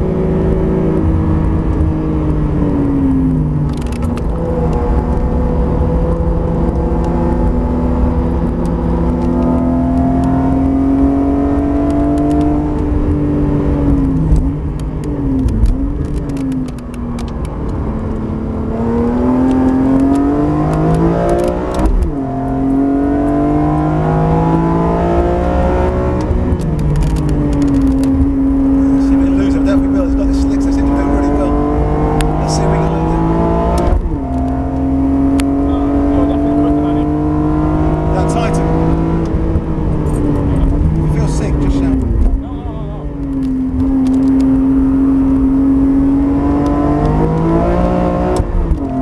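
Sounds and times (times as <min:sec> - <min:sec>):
car engine revving hard: 0:00.0 - 0:49.0.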